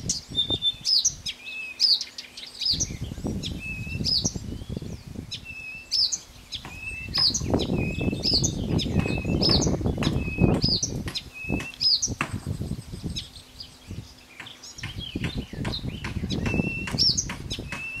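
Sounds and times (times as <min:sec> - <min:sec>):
wind rumbling on microphone: 0:00.0 - 0:01.4, 0:02.6 - 0:18.0
bird singing high phrases: 0:00.0 - 0:18.0.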